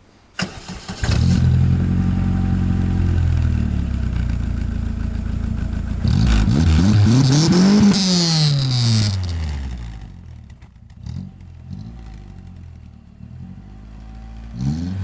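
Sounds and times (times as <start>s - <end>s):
car engine idling and revving: 1.0s - 15.0s.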